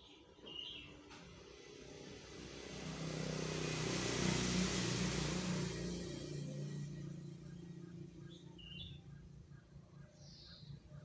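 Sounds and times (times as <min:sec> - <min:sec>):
motor vehicle passing by: 0:00.7 - 0:11.0.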